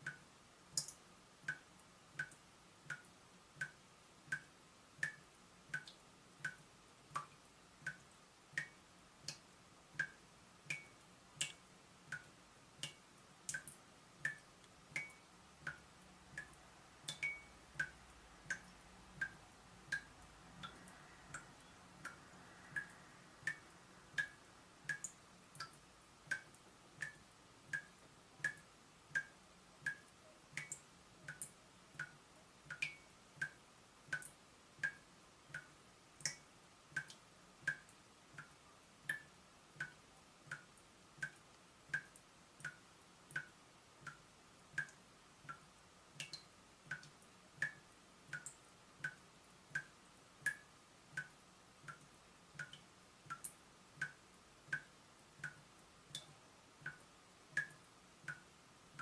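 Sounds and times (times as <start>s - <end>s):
water dripping from tap: 0.0s - 59.0s.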